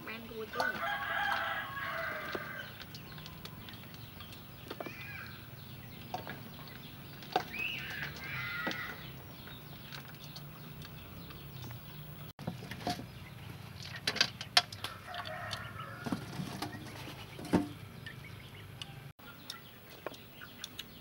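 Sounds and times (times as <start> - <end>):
chickens calling: 0.0 - 21.0.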